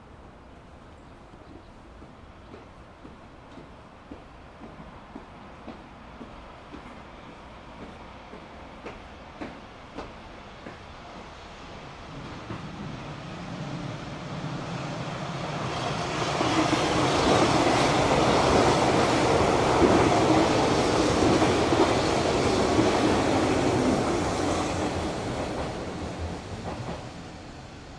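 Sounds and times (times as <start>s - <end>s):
electric train passing: 1.5s - 27.9s.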